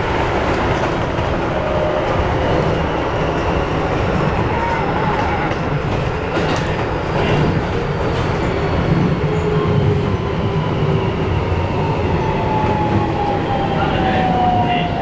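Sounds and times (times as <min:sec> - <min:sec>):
train rumble and wheel noise: 0:00.0 - 0:15.0.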